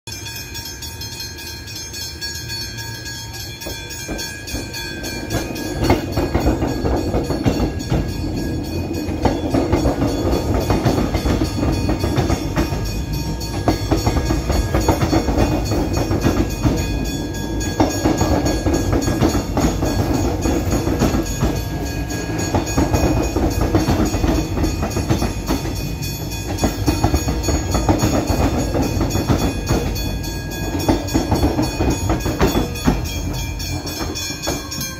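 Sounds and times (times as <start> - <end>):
level crossing alarm bells: 0.1 - 34.9
train rumbling past: 0.1 - 34.9.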